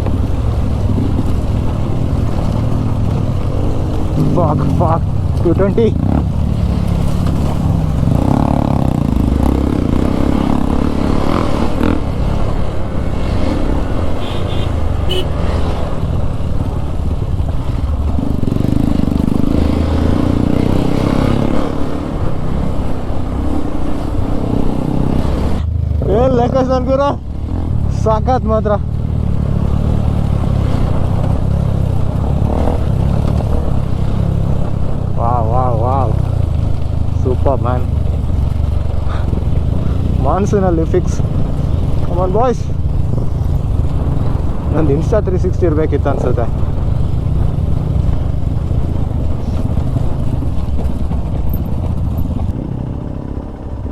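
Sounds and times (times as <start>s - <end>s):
clatter over rough ground: 0.0s - 53.9s
motorcycle engine running: 0.0s - 53.9s.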